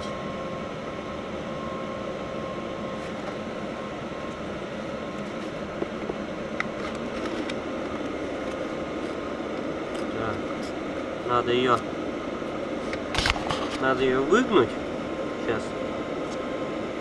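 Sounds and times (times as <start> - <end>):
heater fan whirring: 0.0 - 17.0.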